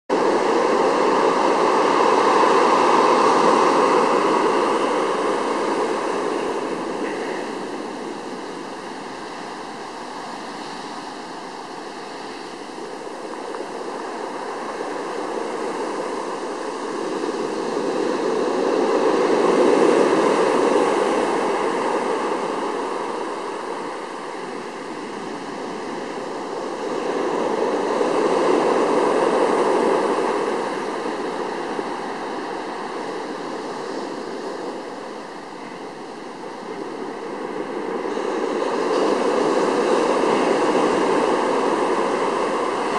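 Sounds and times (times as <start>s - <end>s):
ocean surf on beach: 0.1s - 42.9s.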